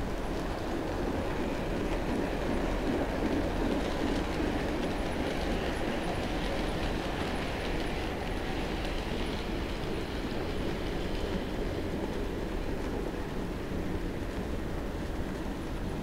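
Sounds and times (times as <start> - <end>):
model train wheels rolling on rails: 0.0 - 15.4.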